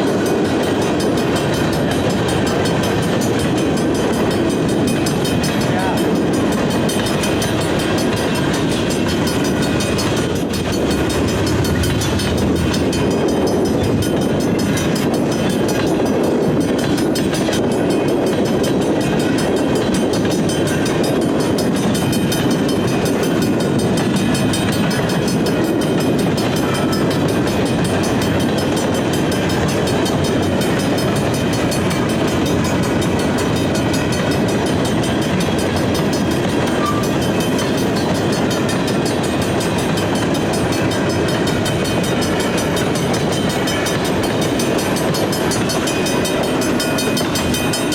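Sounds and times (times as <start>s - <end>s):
clatter of passing rail cars: 0.0s - 47.9s
freight train wheels rumbling: 0.0s - 47.9s.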